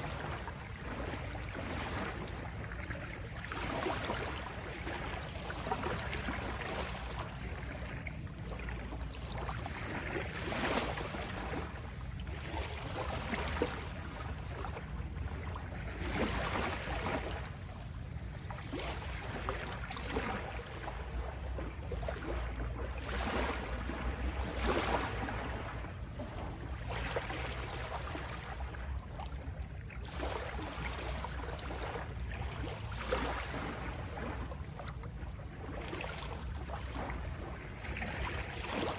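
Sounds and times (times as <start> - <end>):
constant low rumble: 0.0 - 38.9
small waves lapping at shore: 0.0 - 38.9.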